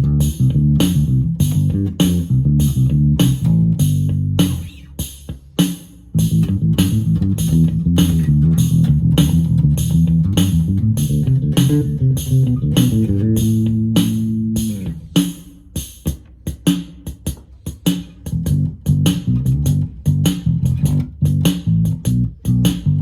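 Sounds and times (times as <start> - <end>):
electric bass playing: 0.0 - 4.9, 6.2 - 15.3, 18.3 - 23.0
drum machine pattern: 0.0 - 23.0.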